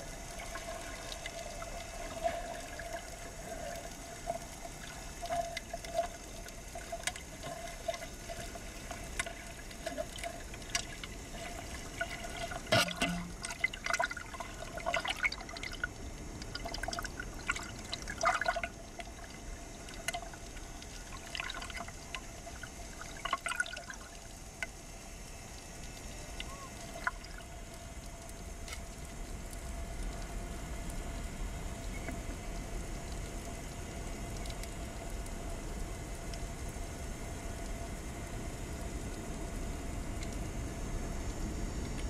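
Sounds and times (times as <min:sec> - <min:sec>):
underwater splashing and bubbling: 0:00.0 - 0:41.1
faint steady hum: 0:00.0 - 0:42.0.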